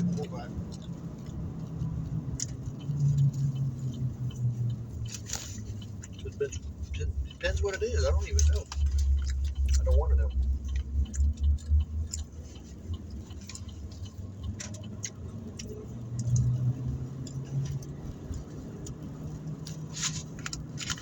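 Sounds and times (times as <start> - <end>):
car interior rumble and hum: 0.0 - 21.0
small clicks and rustles: 0.7 - 21.0.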